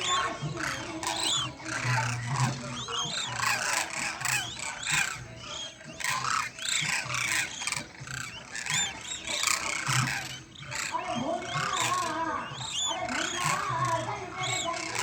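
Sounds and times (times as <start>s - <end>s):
cranes calling: 0.0s - 15.0s.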